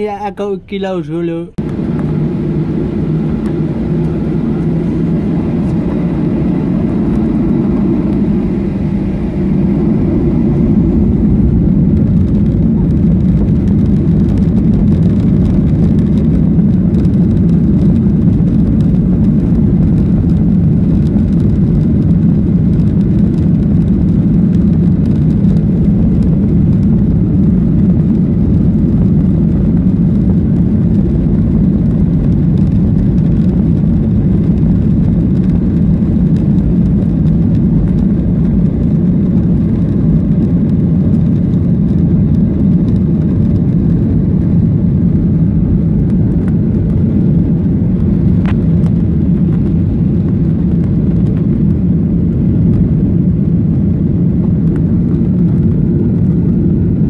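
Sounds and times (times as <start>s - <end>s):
jet engine cabin drone: 0.0s - 57.0s.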